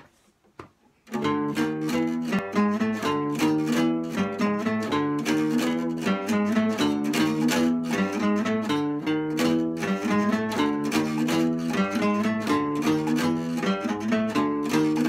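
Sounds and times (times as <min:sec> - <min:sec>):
acoustic bass plucked fingerstyle: 0:01.1 - 0:15.0
acoustic guitar plucked notes: 0:01.1 - 0:15.0.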